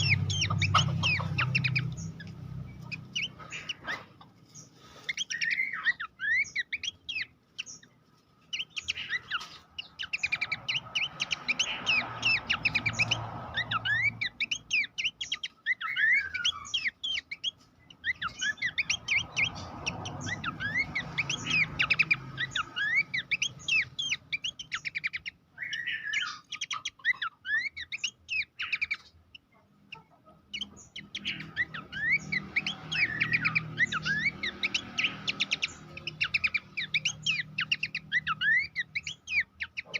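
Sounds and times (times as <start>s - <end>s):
bird singing squeaky chattering: 0.0s - 39.9s.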